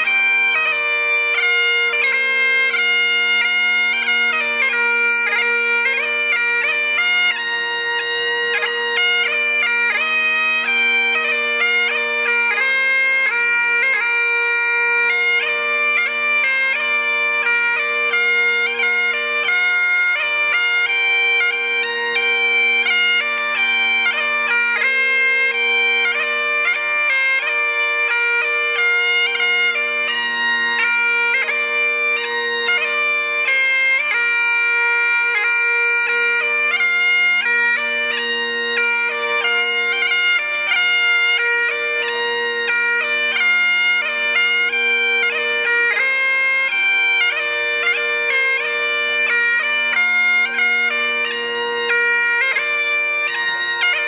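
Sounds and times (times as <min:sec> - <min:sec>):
bagpipe playing: 0:00.0 - 0:54.0.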